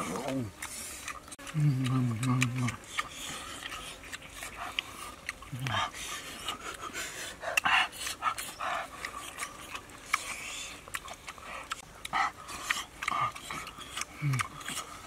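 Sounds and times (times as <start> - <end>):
man chewing: 0.0 - 15.0.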